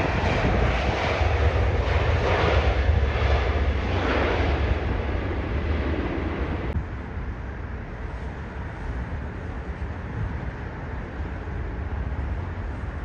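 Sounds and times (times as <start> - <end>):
jet airliner engine roar: 0.0 - 13.0.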